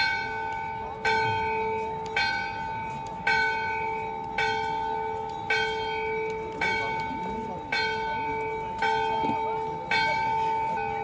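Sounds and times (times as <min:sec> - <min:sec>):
temple bell ringing: 0:00.0 - 0:11.0.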